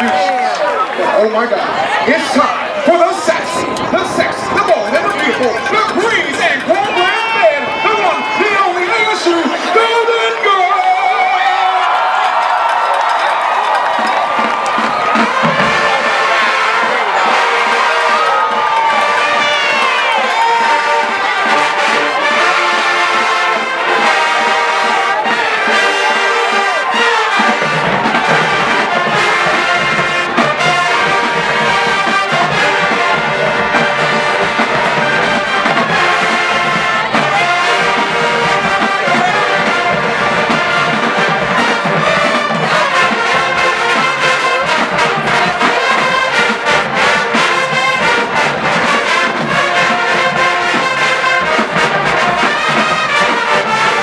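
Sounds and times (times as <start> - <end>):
marching band playing loudly: 0.0 - 54.0
low brass: 1.8 - 8.9, 11.4 - 54.0.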